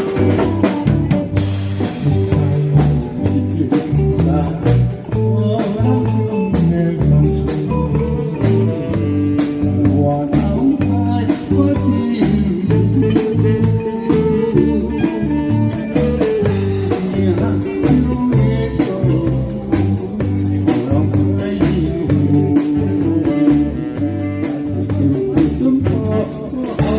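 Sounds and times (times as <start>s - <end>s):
bass line: 0.0s - 26.9s
drum kit beat: 0.0s - 26.9s
guitar: 0.0s - 26.9s.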